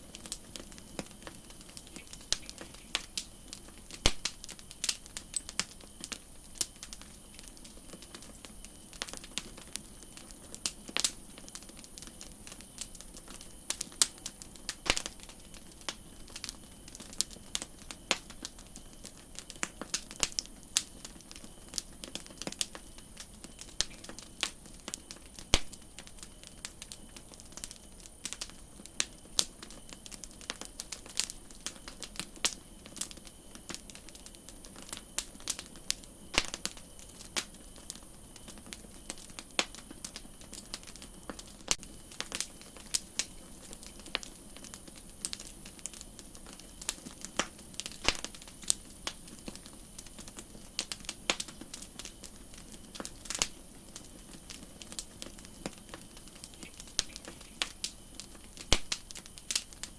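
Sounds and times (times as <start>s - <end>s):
campfire crackling: 0.0s - 59.9s
faint steady hiss: 0.0s - 59.9s.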